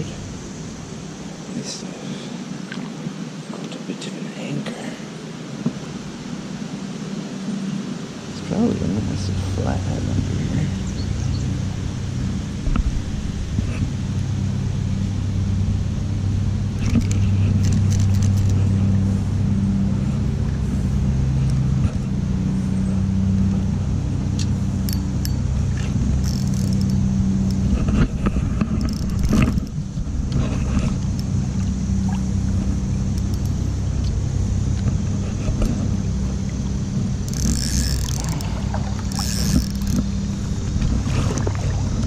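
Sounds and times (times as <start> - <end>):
low engine-like drone: 0.0 - 42.0.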